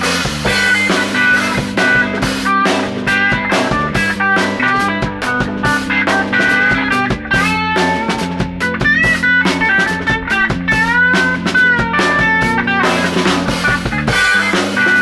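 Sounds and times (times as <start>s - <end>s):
held bass line: 0.0s - 15.0s
lead guitar bending notes: 0.0s - 15.0s
steady drum beat: 0.0s - 15.0s.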